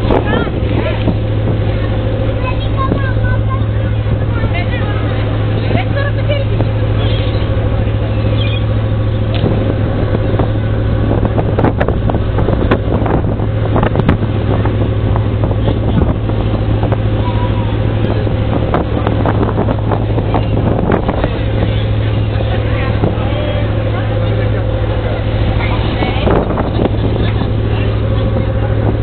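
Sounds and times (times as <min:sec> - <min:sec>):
ferry engines droning: 0:00.0 - 0:29.0
sea noise: 0:00.0 - 0:29.0
wind on microphone: 0:00.0 - 0:29.0.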